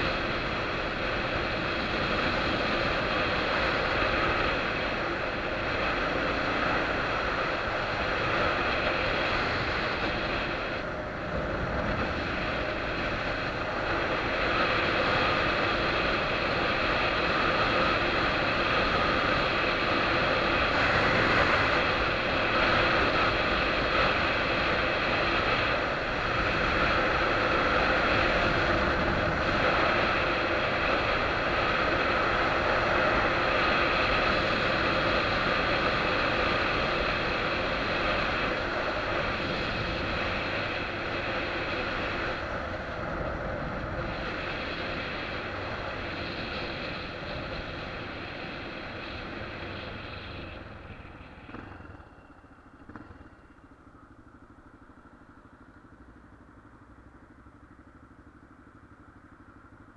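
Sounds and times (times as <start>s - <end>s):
wind rushing over camera: 0.0s - 52.0s
motorcycle engine running: 0.0s - 59.9s.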